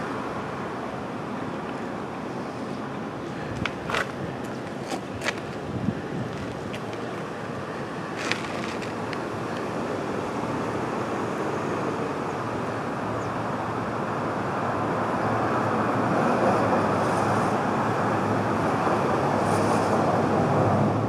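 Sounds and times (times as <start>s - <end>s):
passing traffic rush: 0.0s - 21.0s.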